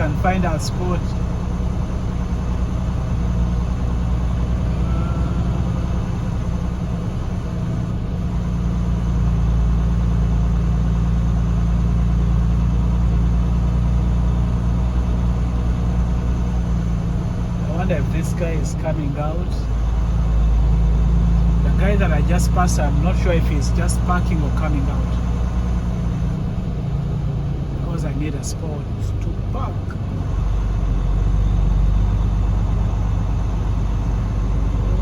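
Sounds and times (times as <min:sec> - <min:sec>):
diesel truck engine droning: 0:00.0 - 0:35.0.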